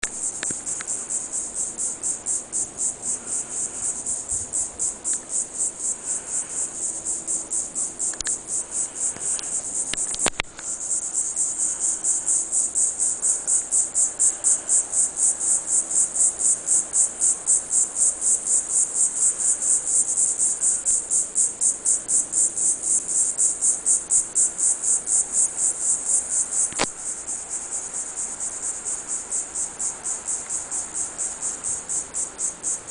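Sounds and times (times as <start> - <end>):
cicada buzzing: 0.0 - 32.9.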